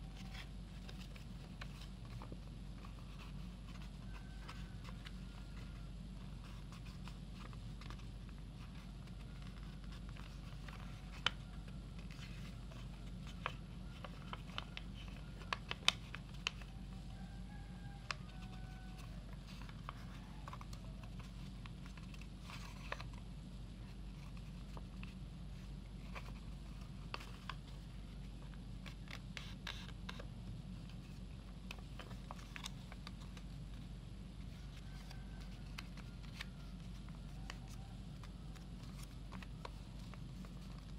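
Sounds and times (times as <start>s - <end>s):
paper crinkling and snapping: 0.0s - 40.9s
steady low hum: 0.0s - 40.9s.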